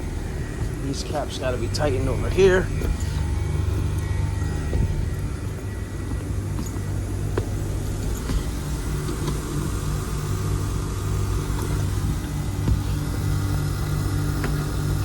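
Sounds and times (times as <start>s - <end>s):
heat pump humming: 0.0s - 15.0s.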